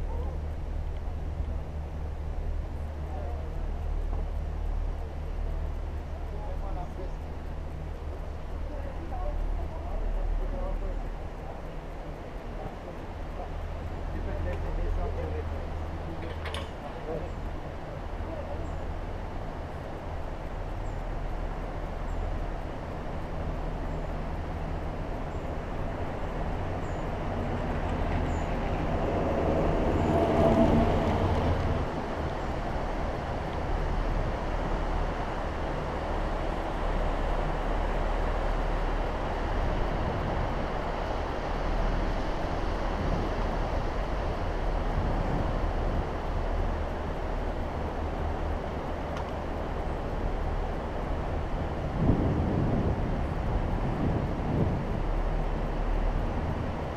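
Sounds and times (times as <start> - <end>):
gondola cabin hum and rumble: 0.0 - 56.9.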